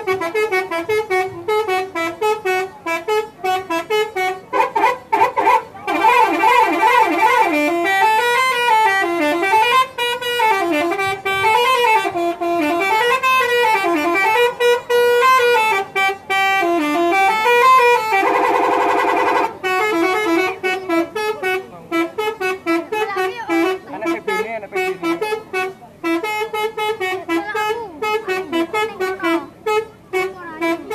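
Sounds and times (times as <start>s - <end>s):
buzzing horn blast: 0.0s - 30.9s
multi-tone bus horn melody: 0.0s - 30.9s.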